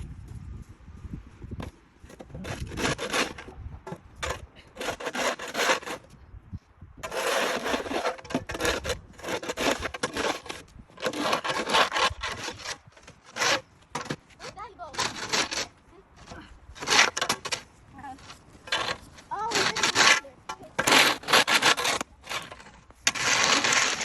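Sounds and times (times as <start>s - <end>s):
snow shovel scraping: 2.1s - 3.5s, 4.2s - 6.1s, 7.0s - 24.0s.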